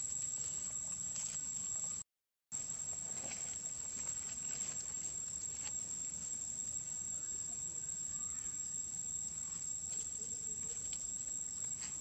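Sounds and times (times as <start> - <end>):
insects chirring: 0.0 - 2.0, 2.6 - 12.0.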